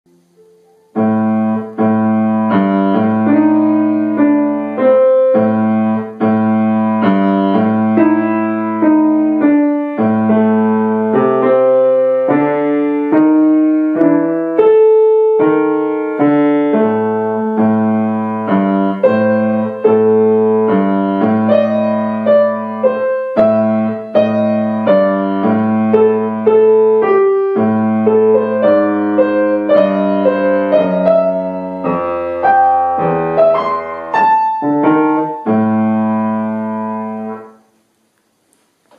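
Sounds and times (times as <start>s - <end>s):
grand piano tune: 0.1s - 37.8s.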